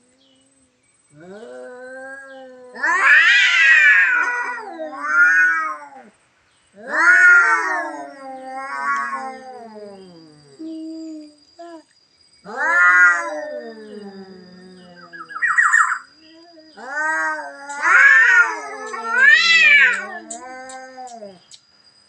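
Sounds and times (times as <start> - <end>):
cat yowling: 1.2 - 6.1, 6.8 - 11.8, 12.4 - 21.4.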